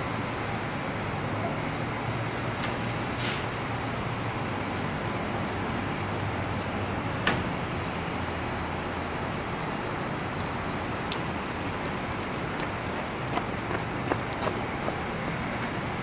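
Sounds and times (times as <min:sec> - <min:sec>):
vehicle engine and traffic: 0:00.0 - 0:16.0.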